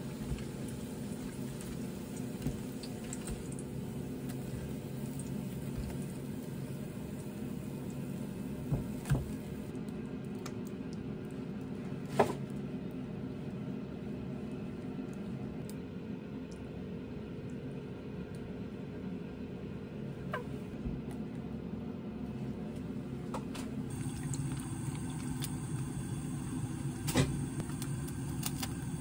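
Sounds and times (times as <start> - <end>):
low appliance hum: 0.0 - 29.0.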